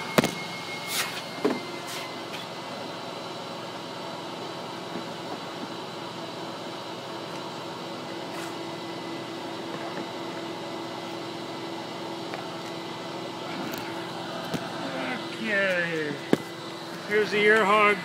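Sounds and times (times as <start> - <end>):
vacuum motors humming: 0.0 - 18.0.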